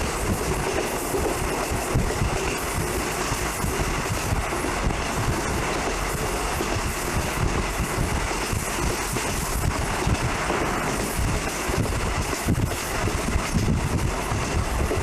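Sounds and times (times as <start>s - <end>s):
low knocks from train wheels: 0.0s - 15.0s
train rumbling along track: 0.0s - 15.0s.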